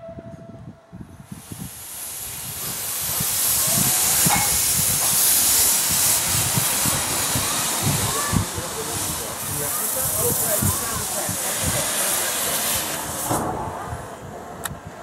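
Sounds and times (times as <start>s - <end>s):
steam locomotive chuffing: 1.2s - 14.2s
steam hissing: 1.2s - 14.4s.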